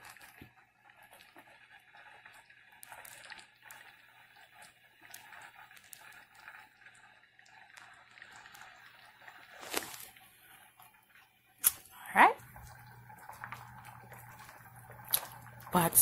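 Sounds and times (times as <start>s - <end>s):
soup simmering and bubbling: 0.0s - 16.0s.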